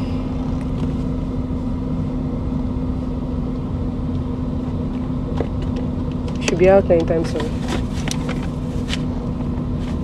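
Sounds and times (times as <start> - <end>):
car idling with air conditioning: 0.0 - 10.0.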